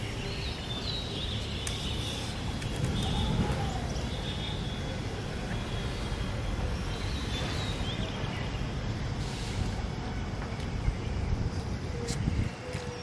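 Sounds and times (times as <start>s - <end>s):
low outdoor background rumble: 0.0s - 13.0s.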